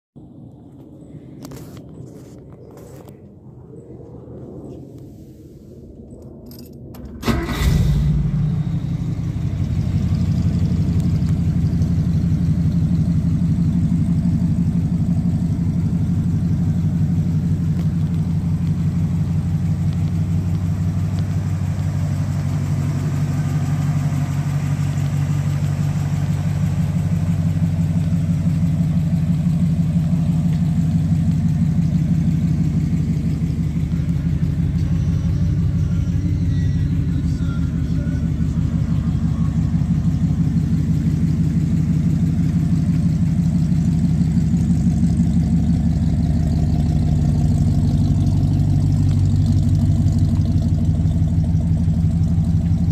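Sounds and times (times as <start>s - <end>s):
car engine starting: 5.0s - 52.9s
engine idling: 7.0s - 52.9s.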